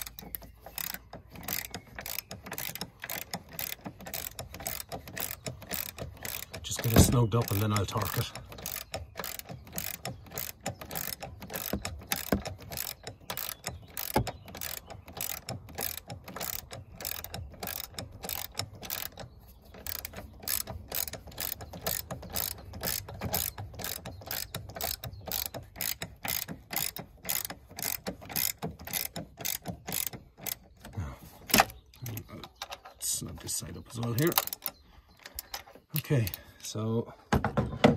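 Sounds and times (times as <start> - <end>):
ratchet wrench clicking: 0.0 - 30.6.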